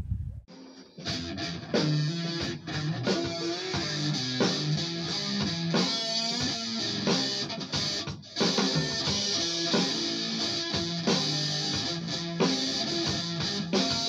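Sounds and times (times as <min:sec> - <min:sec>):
electric guitar chords: 0:01.0 - 0:14.0.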